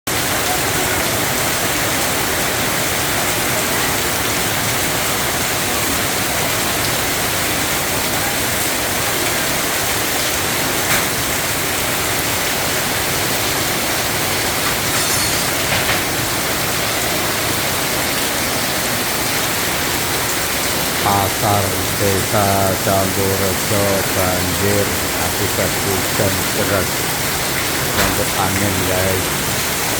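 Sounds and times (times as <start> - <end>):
heavy rain pouring: 0.1 - 29.9.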